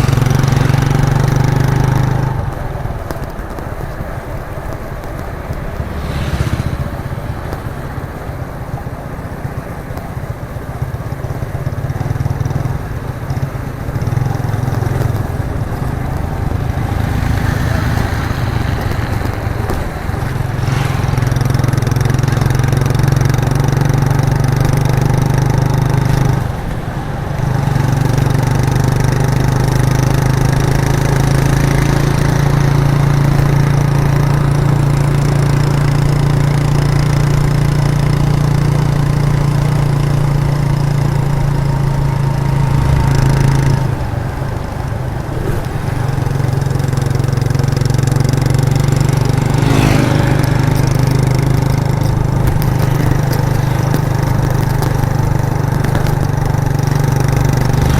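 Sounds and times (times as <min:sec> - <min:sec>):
motorcycle engine exhaust: 0:00.0 - 0:57.9.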